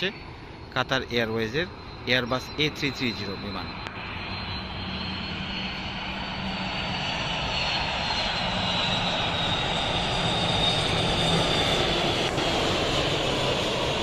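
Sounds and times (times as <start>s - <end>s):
airliner jet engines: 0.0s - 14.0s
high jet whine: 0.0s - 14.0s.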